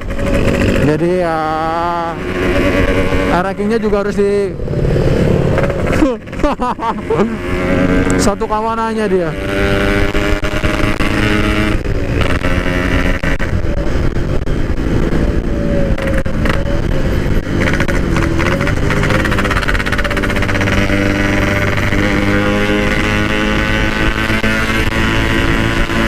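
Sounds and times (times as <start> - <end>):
two-stroke motorcycle engine: 0.0 - 26.0.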